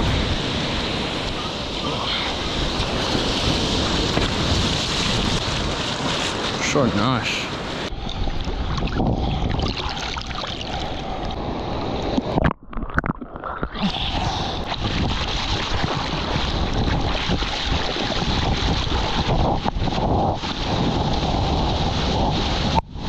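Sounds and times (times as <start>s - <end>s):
wind buffeting microphone: 0.0s - 12.5s, 13.9s - 23.0s
sea water splashing: 0.0s - 22.8s.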